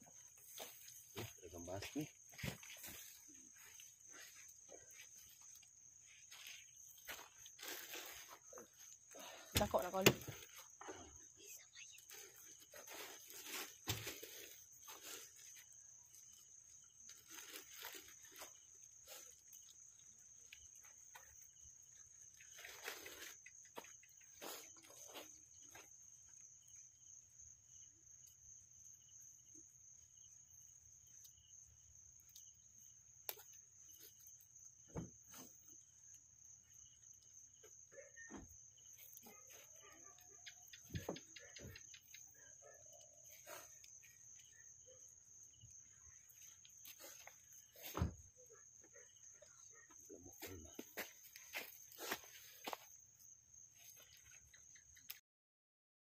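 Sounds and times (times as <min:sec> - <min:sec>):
faint high-pitched cricket chorus: 0:00.0 - 0:55.2.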